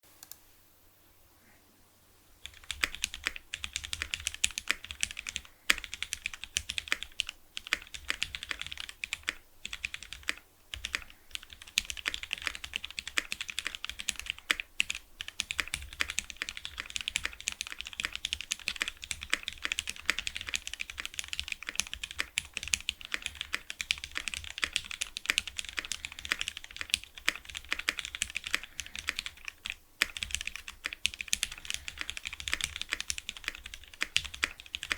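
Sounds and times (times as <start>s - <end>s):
fast mechanical keyboard typing: 2.4s - 34.9s.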